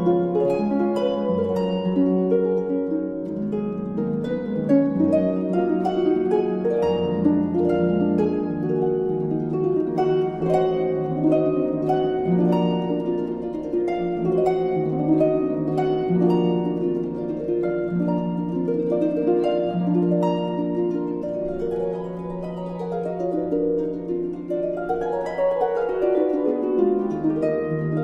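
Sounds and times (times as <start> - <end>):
harp-like plucked strings: 0.0 - 28.0.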